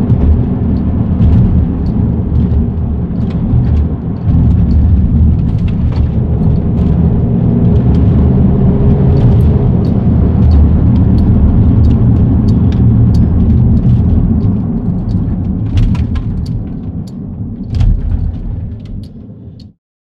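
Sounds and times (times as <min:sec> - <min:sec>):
road and engine rumble in car: 0:00.0 - 0:19.8
small clicks and ticks: 0:00.1 - 0:19.8.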